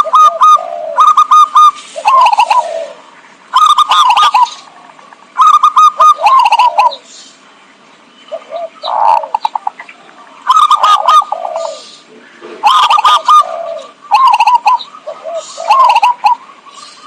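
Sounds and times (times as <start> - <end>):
dove cooing: 0.0 - 7.1, 8.3 - 17.0.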